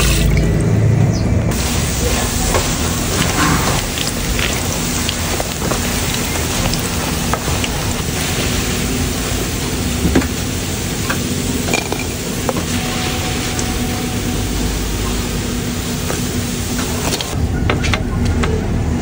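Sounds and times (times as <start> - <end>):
oil sizzling in a pan: 1.5 - 17.4.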